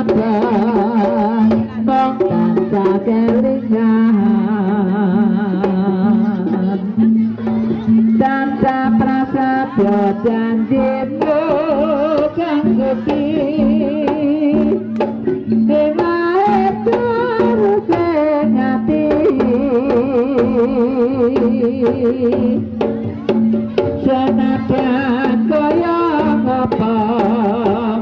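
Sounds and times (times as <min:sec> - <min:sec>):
drum beats: 0:00.0 - 0:28.0.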